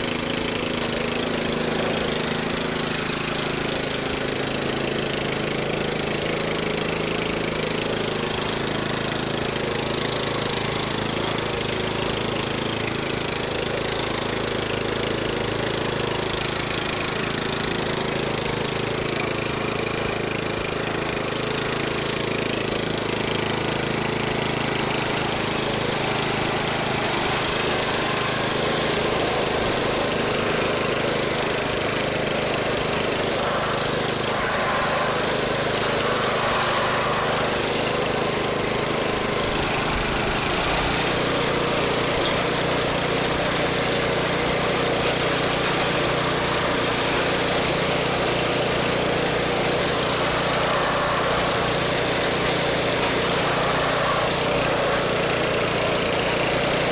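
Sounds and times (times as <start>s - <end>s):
garden tractor engine running: 0.0s - 56.9s.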